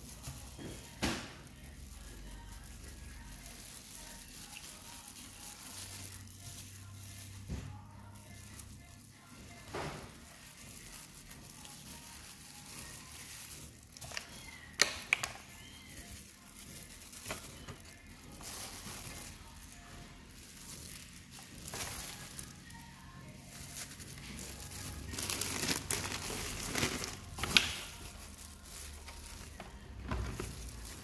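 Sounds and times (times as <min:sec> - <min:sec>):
plastic glove crinkling: 0:00.0 - 0:31.0.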